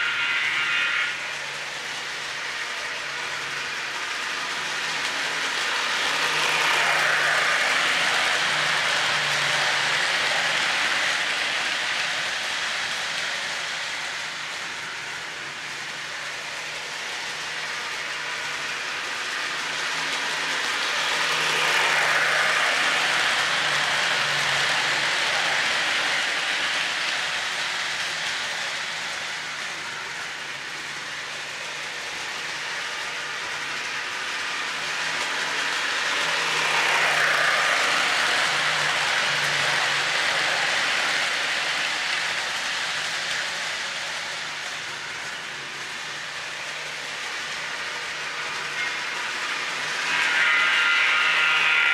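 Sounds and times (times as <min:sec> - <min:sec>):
model train rumbling on track: 0:00.0 - 0:51.9.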